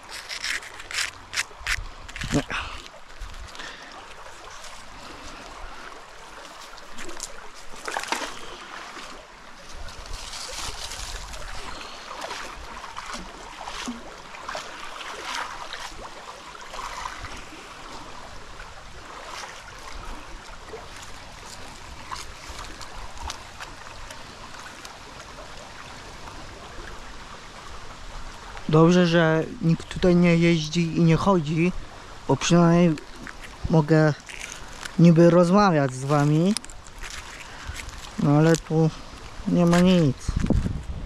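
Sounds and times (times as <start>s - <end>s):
shallow stream flowing: 0.0s - 41.0s.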